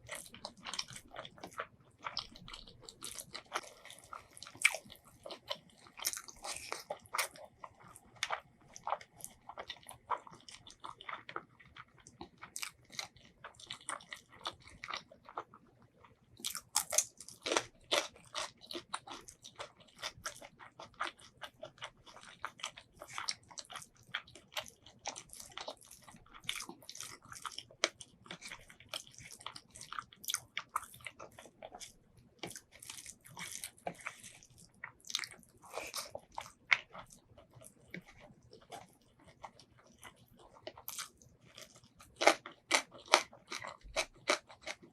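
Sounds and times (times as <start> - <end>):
close chewing and biting: 0.0 - 44.9.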